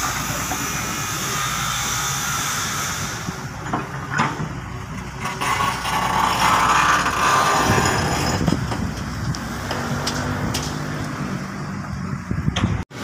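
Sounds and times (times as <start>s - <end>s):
heavy diesel machinery engines: 0.0s - 13.0s.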